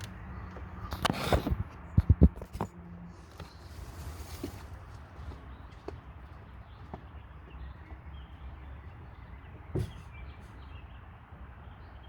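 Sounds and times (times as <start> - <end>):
diesel car engine rumble: 0.0 - 11.8.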